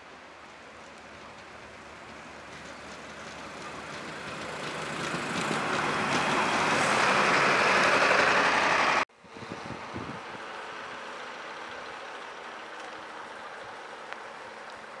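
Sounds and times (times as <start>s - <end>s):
vehicle approaching: 0.3s - 15.0s.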